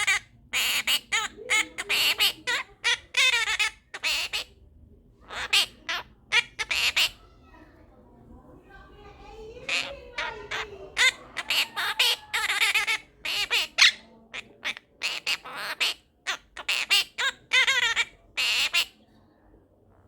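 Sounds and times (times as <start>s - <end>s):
parakeet squawking and chattering: 0.0s - 7.5s, 9.6s - 19.0s.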